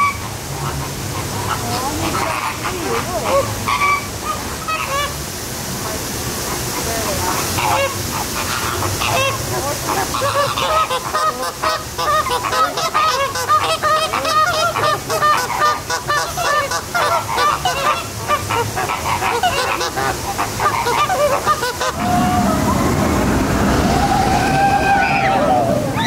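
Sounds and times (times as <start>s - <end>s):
flamingos honking: 0.0s - 26.0s.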